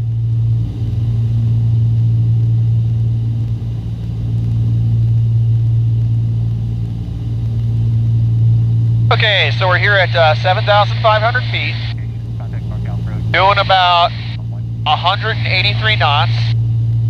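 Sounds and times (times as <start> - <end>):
twin propeller plane engines droning: 0.0 - 17.0.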